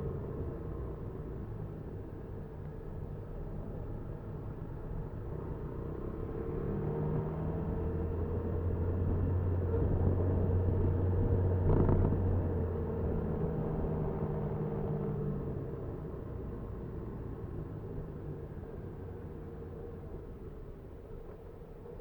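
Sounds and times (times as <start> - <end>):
road rumble: 0.0 - 22.0.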